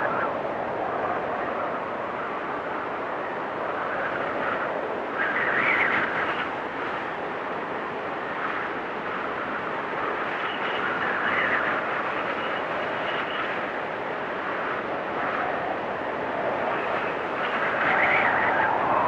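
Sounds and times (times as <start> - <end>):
storm wind blowing: 0.0 - 19.0.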